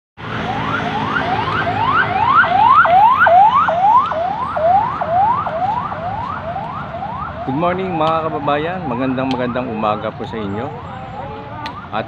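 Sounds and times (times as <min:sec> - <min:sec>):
low traffic rumble: 0:00.2 - 0:12.0
siren yelping: 0:00.2 - 0:12.0.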